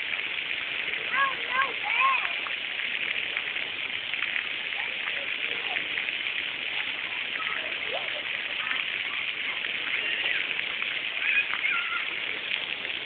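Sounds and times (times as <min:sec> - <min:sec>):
waterfall rushing: 0:00.0 - 0:13.0
faint voices: 0:00.9 - 0:13.0.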